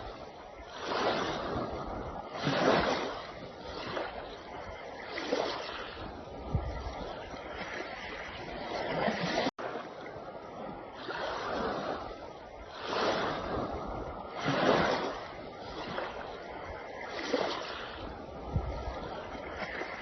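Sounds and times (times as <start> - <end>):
sea waves washing in: 0.0 - 20.0.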